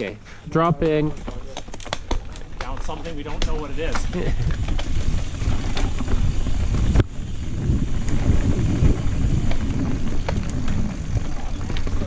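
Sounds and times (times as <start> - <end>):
bike rattling and knocking: 0.0 - 12.0
bike tyres rumbling on dirt: 0.0 - 12.0
wind buffeting microphone: 1.1 - 12.0.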